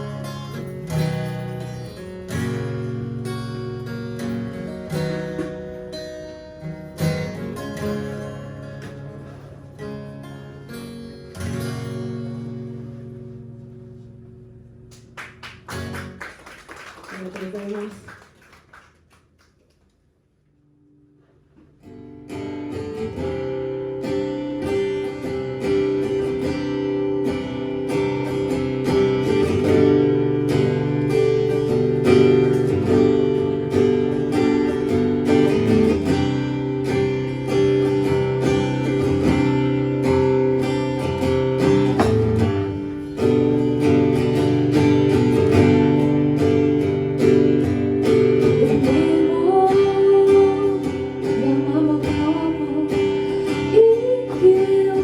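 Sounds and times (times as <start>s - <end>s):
acoustic guitar strumming chords: 0.0s - 16.2s, 21.0s - 55.0s.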